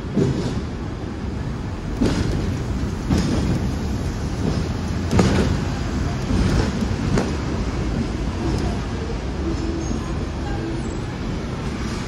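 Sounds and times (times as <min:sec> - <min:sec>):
tram rumbling on tracks: 0:00.0 - 0:12.0.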